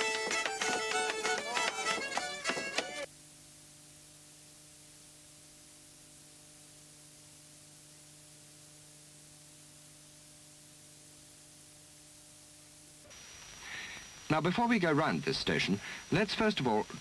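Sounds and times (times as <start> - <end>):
steady recording hiss: 0.0 - 17.0
faint low hum: 3.1 - 17.0.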